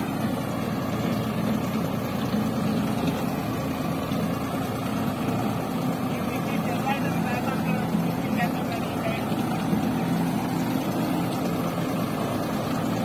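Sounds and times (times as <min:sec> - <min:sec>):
rotary ditcher cutting soil: 0:00.0 - 0:13.0
tractor engine under load: 0:00.0 - 0:13.0.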